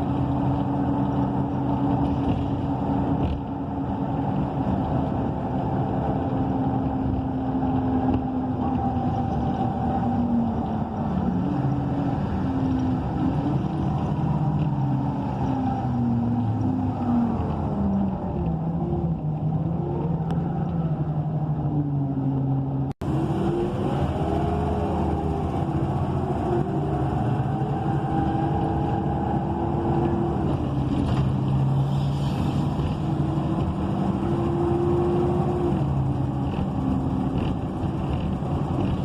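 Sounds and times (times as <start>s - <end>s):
bus engine and transmission whine: 0.0s - 39.0s.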